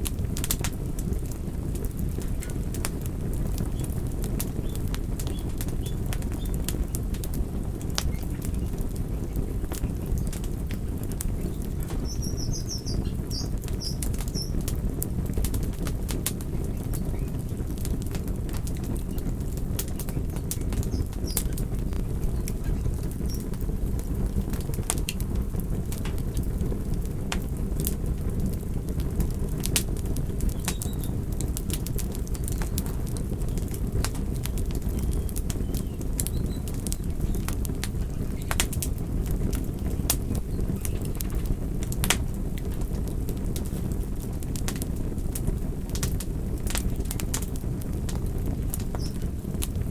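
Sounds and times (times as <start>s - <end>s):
burning wood crackling and popping: 0.0s - 49.9s
low rumble of flames: 0.0s - 49.9s.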